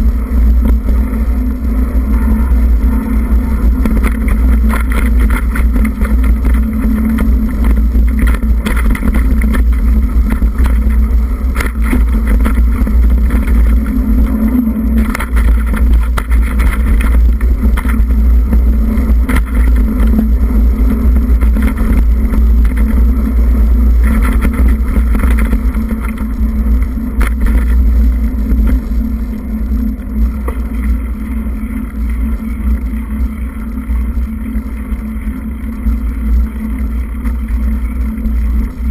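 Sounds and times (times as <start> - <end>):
vehicle rumbling on dirt track: 0.0 - 38.9.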